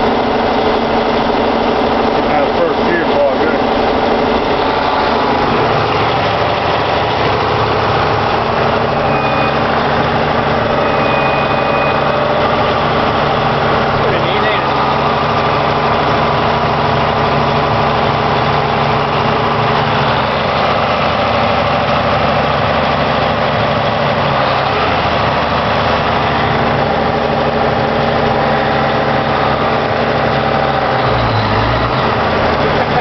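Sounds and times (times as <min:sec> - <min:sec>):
diesel tractor engine running: 0:00.0 - 0:33.0.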